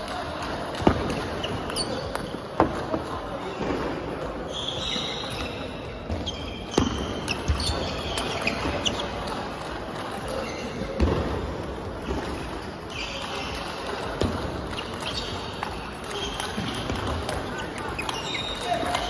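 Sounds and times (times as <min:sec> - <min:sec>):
voices and hall noise: 0:00.0 - 0:19.0.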